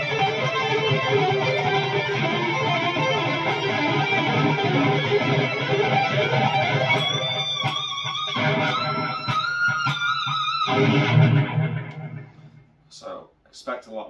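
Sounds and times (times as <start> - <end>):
electric guitar lead: 0.0 - 12.7.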